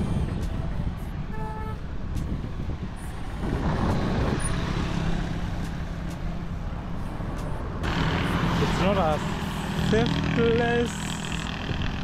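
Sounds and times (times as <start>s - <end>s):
low engine hum: 0.0s - 12.0s
vehicles passing: 0.0s - 12.0s.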